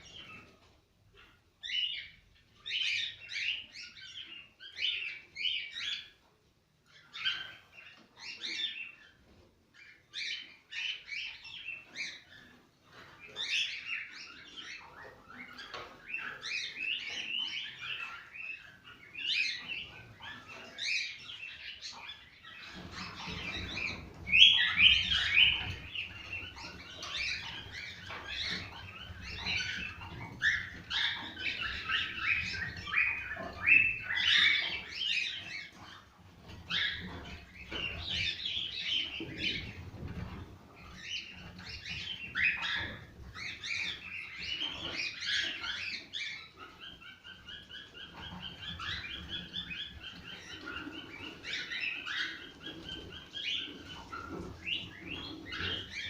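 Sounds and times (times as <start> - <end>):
cockatiels chirping and whistling: 0.0 - 0.5, 1.2 - 6.2, 6.9 - 9.2, 9.8 - 56.0.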